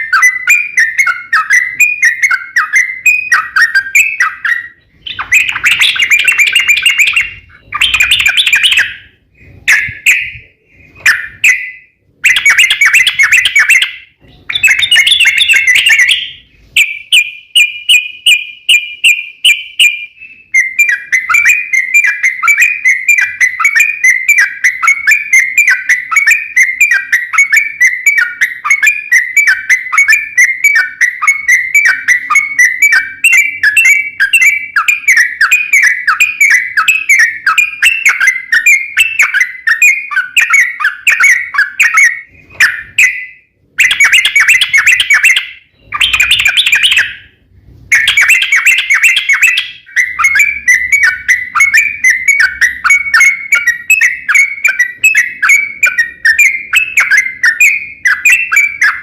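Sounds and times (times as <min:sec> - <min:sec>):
bulbul singing: 0:00.0 - 0:59.0
fast repeated bird chirping: 0:00.0 - 0:59.0.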